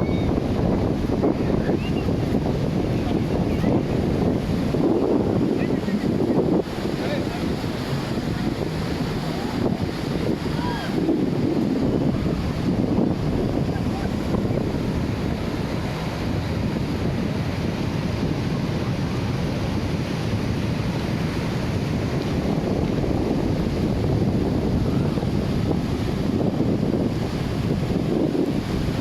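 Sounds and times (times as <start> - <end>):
surf rushing: 0.0 - 29.0
wind buffeting microphone: 0.0 - 29.0.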